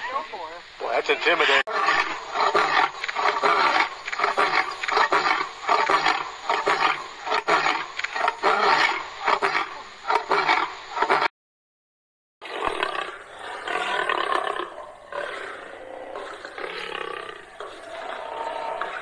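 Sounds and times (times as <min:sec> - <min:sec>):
lion roaring: 0:01.7 - 0:11.3, 0:12.4 - 0:19.0.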